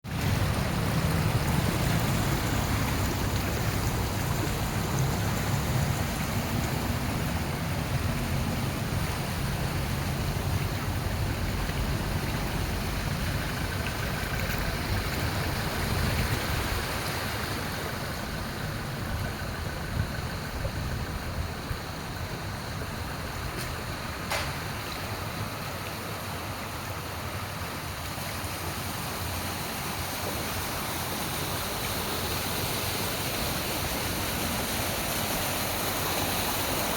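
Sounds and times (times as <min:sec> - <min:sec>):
floodwater rushing: 0:00.0 - 0:36.9.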